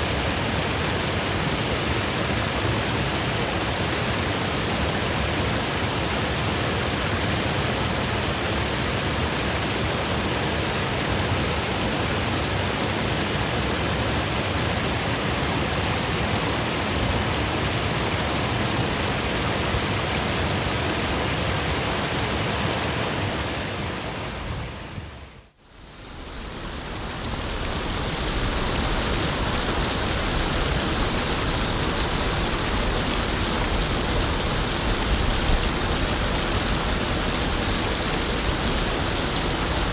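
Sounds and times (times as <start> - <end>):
stream rushing over rocks: 0.0 - 25.5, 26.7 - 39.9.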